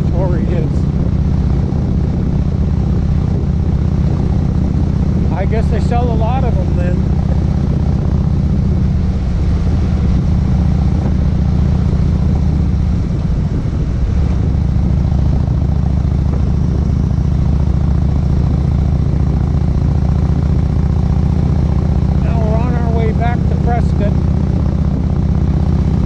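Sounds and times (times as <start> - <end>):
motorcycle engine droning: 0.0 - 26.0
road noise: 0.0 - 26.0
rushing wind: 0.0 - 26.0.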